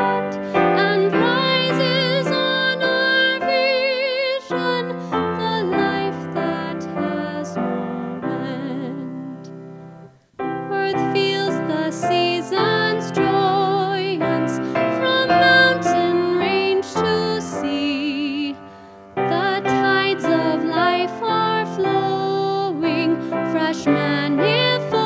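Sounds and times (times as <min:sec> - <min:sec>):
woman singing a hymn: 0:00.0 - 0:09.6, 0:10.6 - 0:25.0
piano accompaniment: 0:00.0 - 0:25.0.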